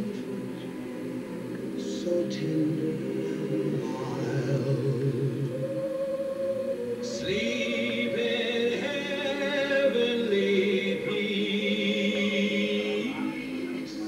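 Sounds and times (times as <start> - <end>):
vocal music with held notes: 0.0 - 14.0.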